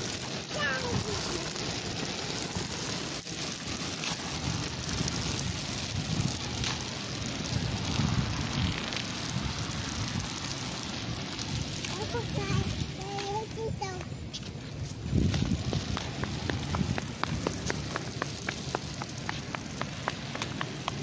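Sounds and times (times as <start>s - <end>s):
drag scraping on concrete: 0.0s - 21.0s.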